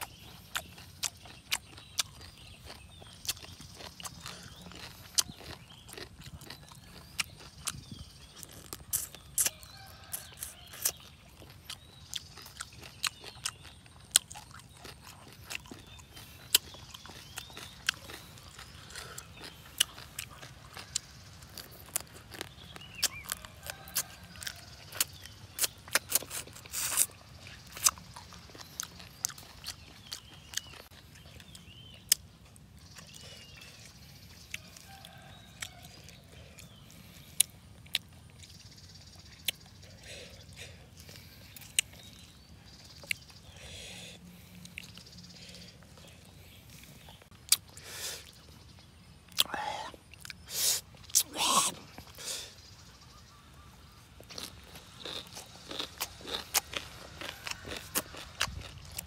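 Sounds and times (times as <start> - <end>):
food crunching: 0.0 - 43.8, 44.4 - 52.5, 53.1 - 59.0
man chewing with wet smacks: 0.0 - 59.0.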